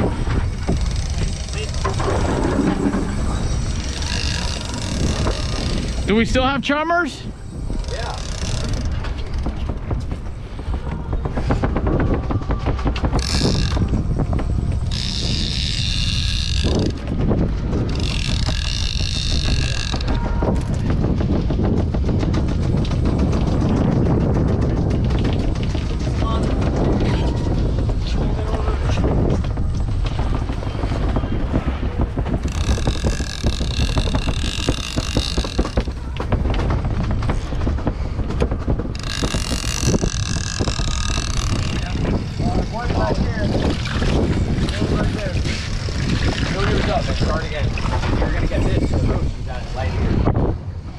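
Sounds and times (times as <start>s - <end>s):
high whirring buzz: 0.0s - 10.4s, 11.1s - 50.9s
fishing boat engine rumble: 0.0s - 50.9s
wind on microphone: 0.0s - 50.9s.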